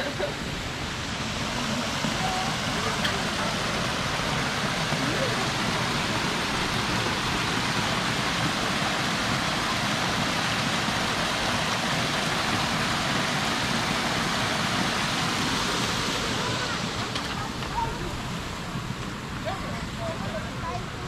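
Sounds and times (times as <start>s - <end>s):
waterfall rushing into pond: 0.0s - 21.0s.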